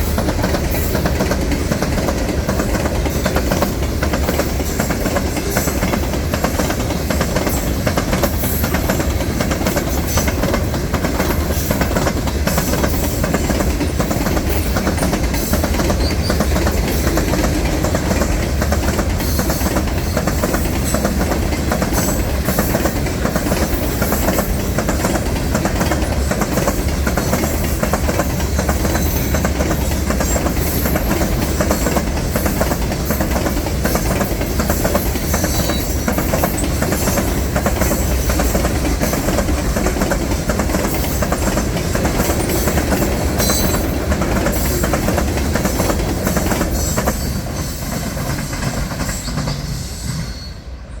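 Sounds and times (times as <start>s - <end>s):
freight train wheels clattering: 0.0s - 50.3s.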